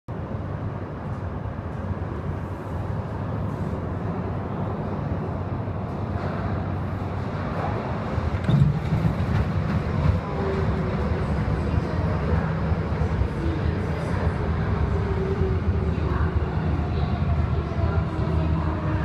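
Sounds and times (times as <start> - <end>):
train wheels rumbling on rail: 0.1 - 19.0.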